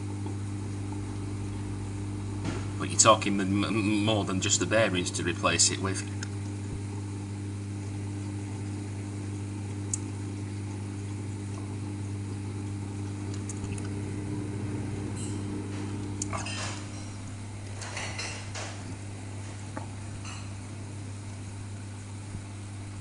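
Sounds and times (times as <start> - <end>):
washing machine spinning: 0.0 - 23.0.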